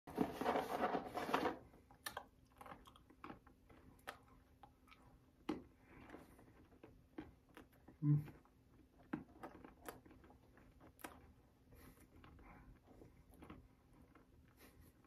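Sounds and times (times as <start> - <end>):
person crunching biscuit: 1.3 - 15.0.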